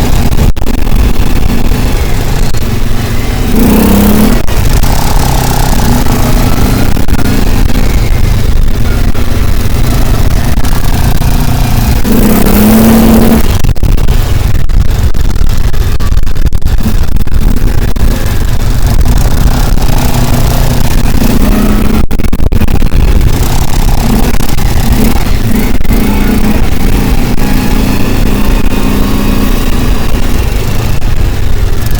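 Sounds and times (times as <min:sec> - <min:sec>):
vehicle engine and road rumble: 0:00.0 - 0:31.9.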